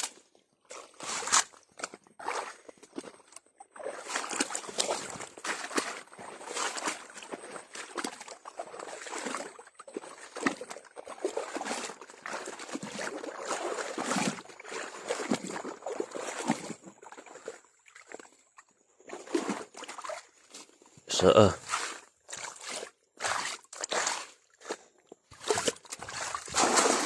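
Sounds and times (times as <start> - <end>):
water sloshing and splashing: 0.1 - 20.9, 21.6 - 27.0.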